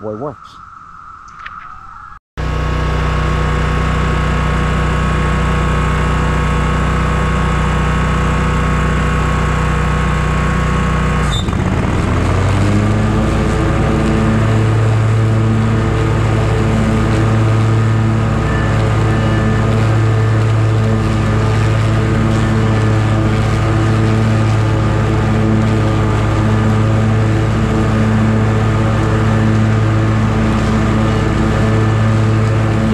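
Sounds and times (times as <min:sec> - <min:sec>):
mower engine running: 0:02.4 - 0:32.9.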